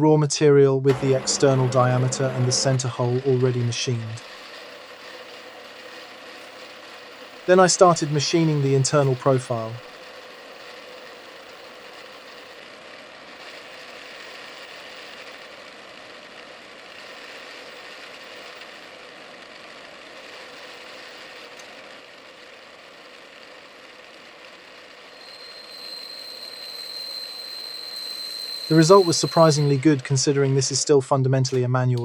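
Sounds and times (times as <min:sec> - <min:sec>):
lathe running with machine hum: 0:00.9 - 0:30.9.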